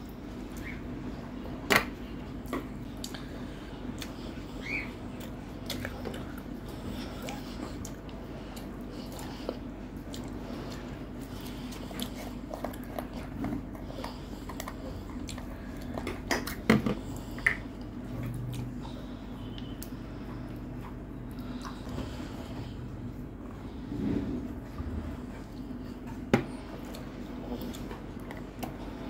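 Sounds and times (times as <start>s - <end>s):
chewing: 2.4s - 23.8s, 24.4s - 29.0s.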